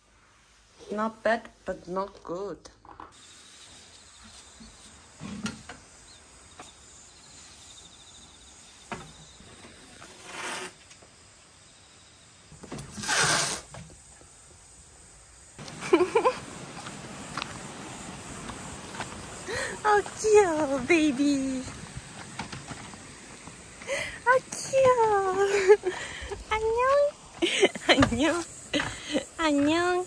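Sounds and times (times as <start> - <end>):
faint insect trilling: 3.2 - 30.0.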